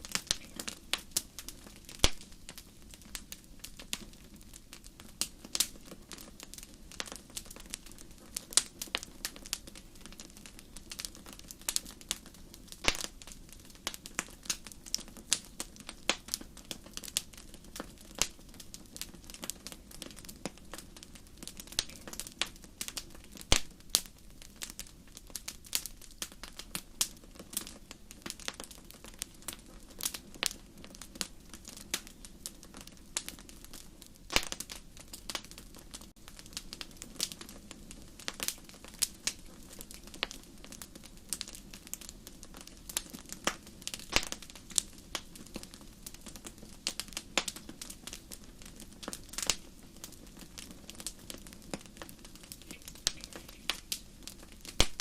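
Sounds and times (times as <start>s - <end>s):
low rush of flame: 0.0s - 55.0s
wood crackling and popping: 0.0s - 55.0s.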